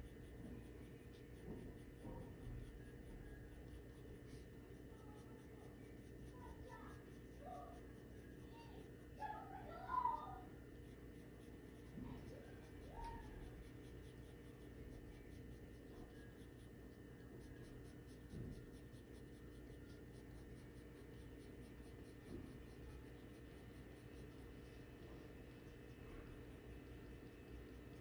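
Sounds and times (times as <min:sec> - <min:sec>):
pencil scratching on paper: 0:00.0 - 0:09.5, 0:10.6 - 0:25.4
low steady hum: 0:00.0 - 0:28.0.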